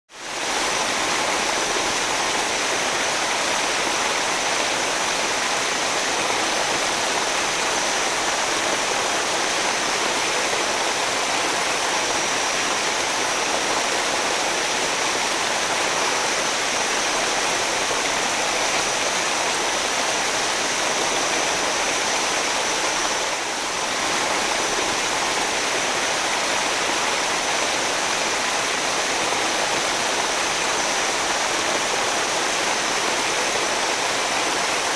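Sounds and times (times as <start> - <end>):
water rushing over waterfalls: 0.2 - 34.9.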